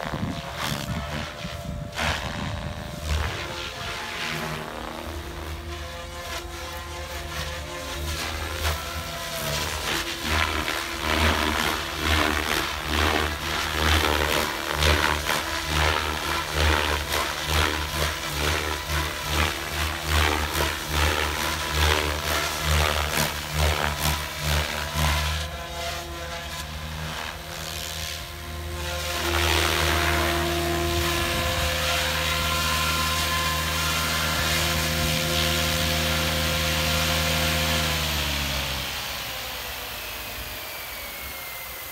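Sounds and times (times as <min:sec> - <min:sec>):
electric helicopter rotor and motor: 0:00.0 - 0:41.9.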